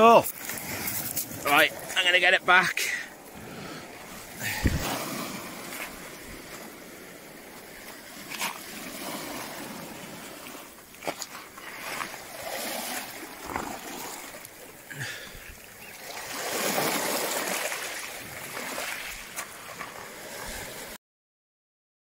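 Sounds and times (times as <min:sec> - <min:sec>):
seawater washing over stones: 0:00.0 - 0:03.4, 0:04.0 - 0:20.9.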